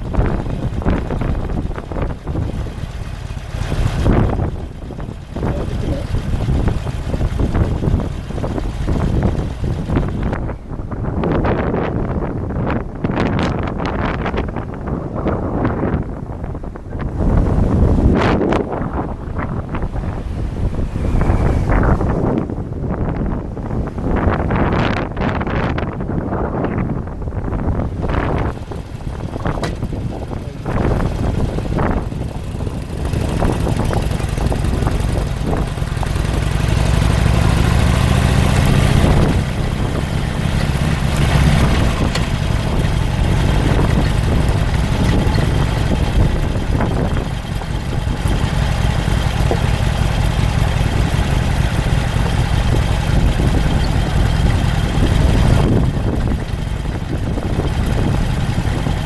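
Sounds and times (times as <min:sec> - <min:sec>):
vehicle engine accelerating: 0:00.0 - 0:25.8, 0:27.6 - 0:59.0
rushing travel noise: 0:00.0 - 0:59.0.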